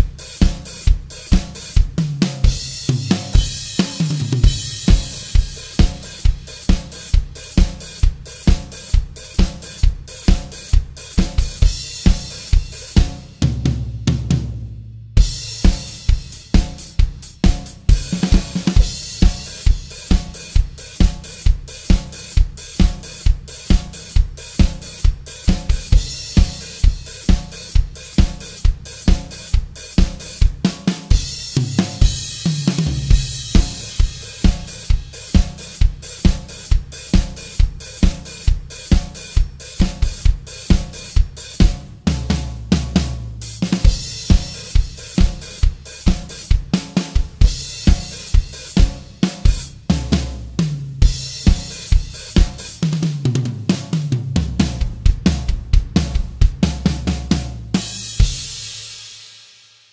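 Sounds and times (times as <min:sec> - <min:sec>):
bass drum: 0:00.0 - 0:58.9
snare drum backbeats: 0:00.0 - 0:59.2.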